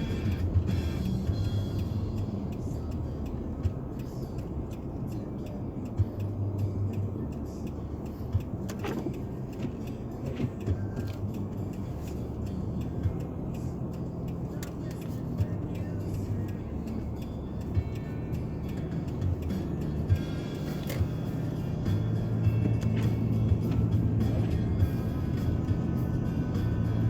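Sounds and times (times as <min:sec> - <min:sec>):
car engine and tyre drone: 0:00.0 - 0:27.0.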